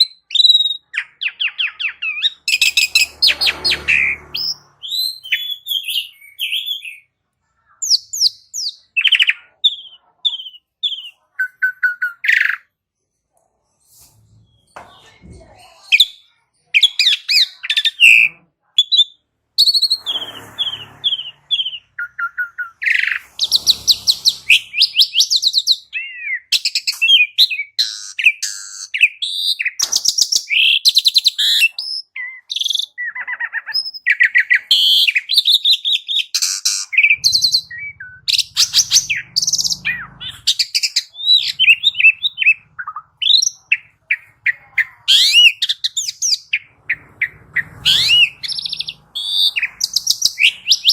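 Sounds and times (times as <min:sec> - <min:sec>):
starling singing: 0:00.0 - 0:07.2, 0:07.8 - 0:12.7, 0:15.9 - 0:50.9.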